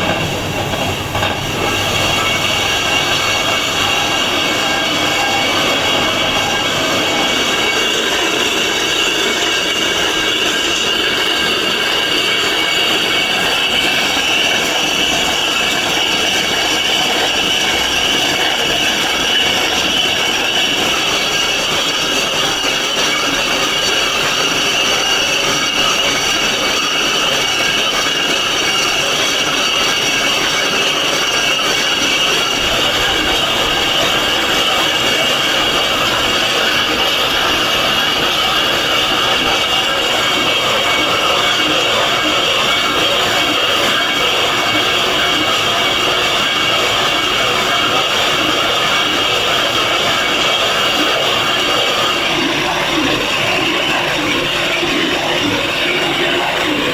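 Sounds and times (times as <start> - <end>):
power tool grinding stone: 0.0 - 56.9.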